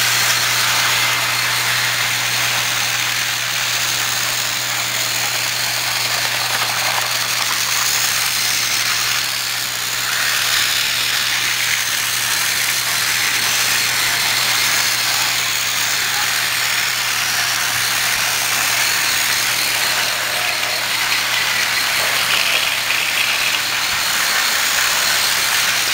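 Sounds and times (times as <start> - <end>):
toy trains whirring and rattling: 0.0 - 25.9.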